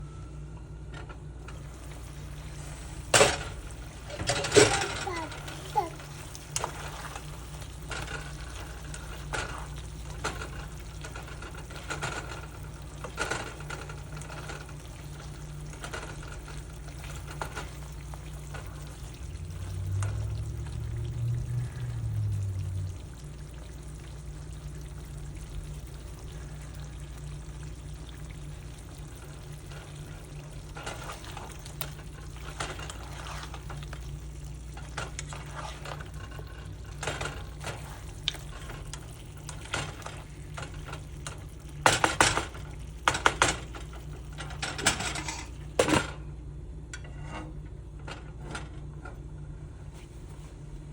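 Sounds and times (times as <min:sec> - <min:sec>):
steady low hum: 0:00.0 - 0:50.9
food sizzling in a pan: 0:01.6 - 0:44.4.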